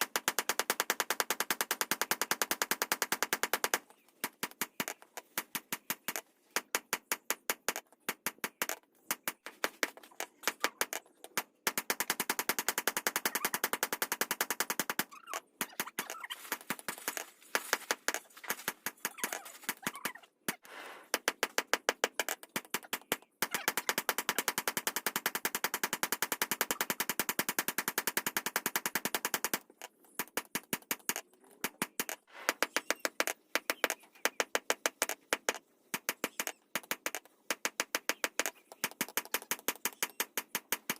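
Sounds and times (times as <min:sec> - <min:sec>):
rapid hammer strikes: 0:00.0 - 0:40.9.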